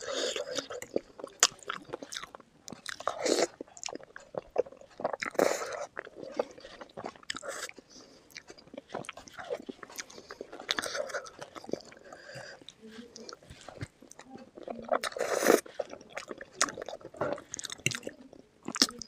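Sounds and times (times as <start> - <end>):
crunching and chewing: 0.0 - 19.0.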